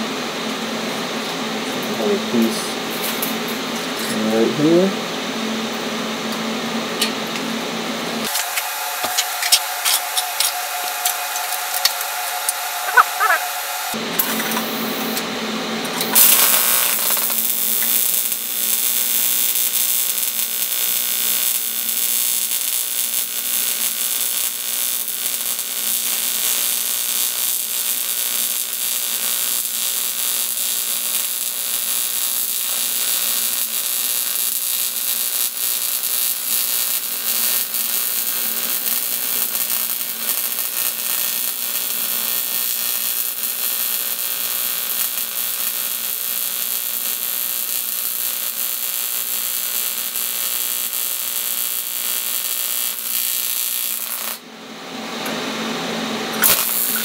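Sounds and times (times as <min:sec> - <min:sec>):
welding arc buzzing hiss: 0:06.3 - 0:57.0.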